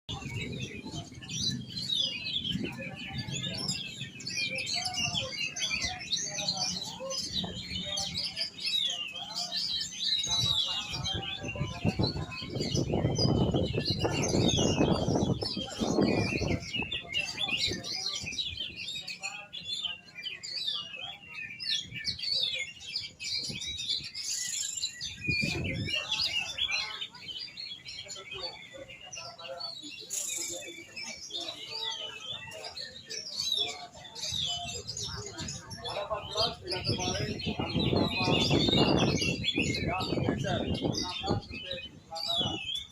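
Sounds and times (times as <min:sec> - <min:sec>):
bird singing chirps and whistles: 0:00.1 - 0:42.9.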